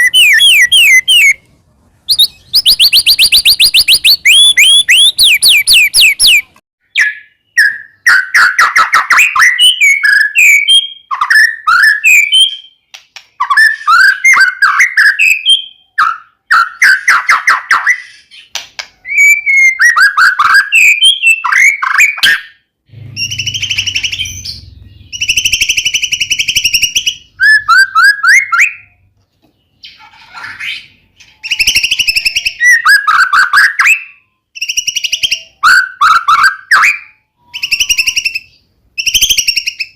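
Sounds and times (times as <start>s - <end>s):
bird singing whistles and trills: 0.0s - 1.4s, 2.1s - 29.1s, 29.7s - 39.9s.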